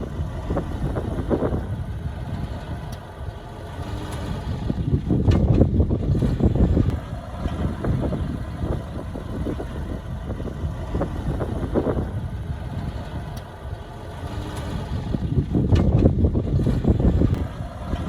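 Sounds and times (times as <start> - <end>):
heavy machinery diesel engine rattling: 0.0 - 18.0.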